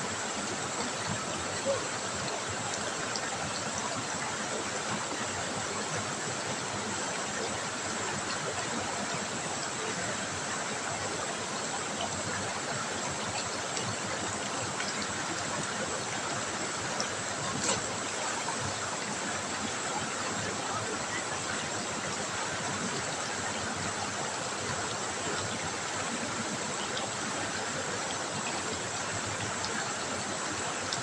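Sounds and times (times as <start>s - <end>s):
river water flowing: 0.0s - 31.0s.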